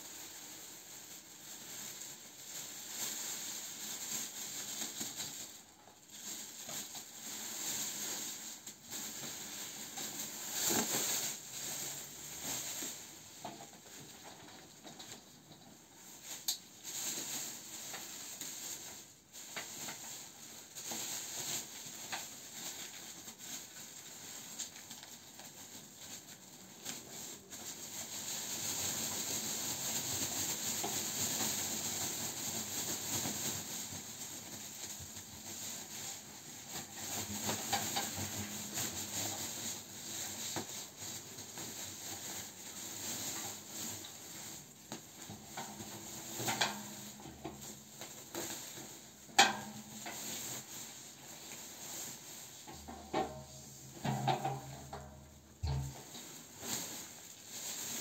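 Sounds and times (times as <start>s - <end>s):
plastic bag and jackets rustling: 0.0s - 58.0s.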